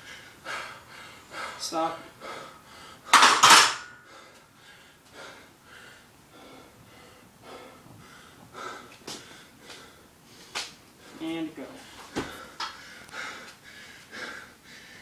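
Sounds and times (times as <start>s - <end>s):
person breathing hard and wheezing: 0.0s - 3.4s, 4.0s - 11.2s, 11.8s - 15.0s.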